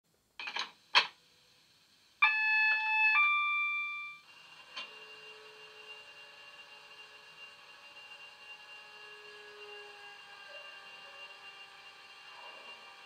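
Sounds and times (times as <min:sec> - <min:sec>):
faint steady hum: 0:00.1 - 0:12.7.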